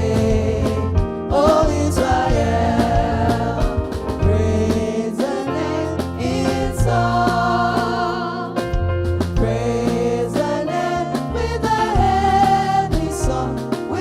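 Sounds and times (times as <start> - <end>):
gospel worship music with singing: 0.0 - 14.0.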